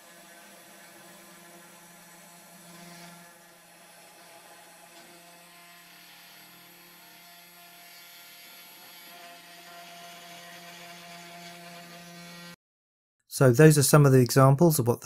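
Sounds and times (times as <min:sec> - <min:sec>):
router spindle motor humming: 0:00.0 - 0:12.6.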